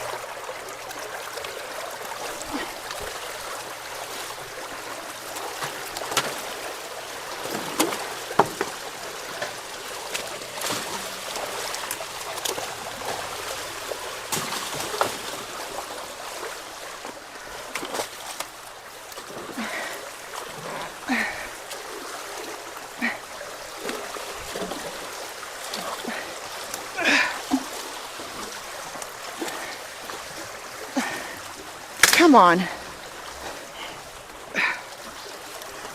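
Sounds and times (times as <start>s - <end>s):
creek water rushing: 0.0s - 35.9s
sharp knocks and splashes: 3.9s - 33.6s.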